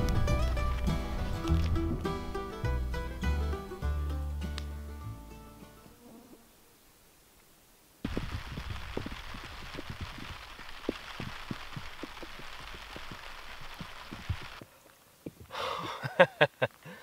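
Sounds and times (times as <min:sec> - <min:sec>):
light rain on a tarp: 0:00.0 - 0:02.6, 0:05.8 - 0:17.0.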